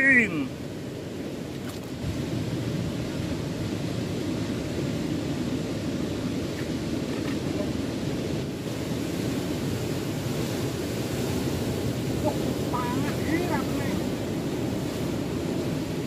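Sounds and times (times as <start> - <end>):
wind on microphone: 0.0 - 16.0
surf breaking on rocks: 1.4 - 16.0.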